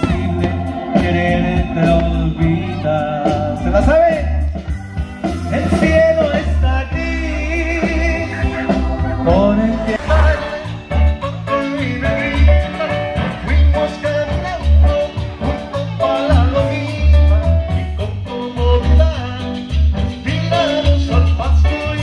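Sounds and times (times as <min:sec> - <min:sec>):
latin band music: 0:00.0 - 0:22.0.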